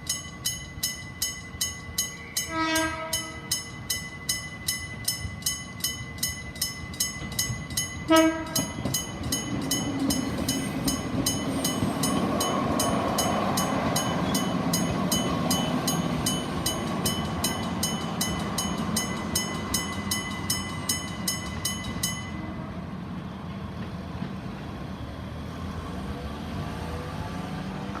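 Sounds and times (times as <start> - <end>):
electric crossing bell ringing: 0.0 - 22.7
train rumbling: 0.0 - 28.0.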